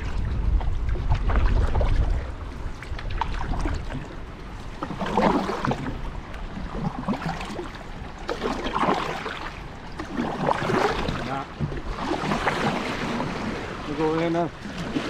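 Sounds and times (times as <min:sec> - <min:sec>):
water splashing around canoe: 0:00.0 - 0:15.0
wind rumbling on microphone: 0:00.0 - 0:15.0.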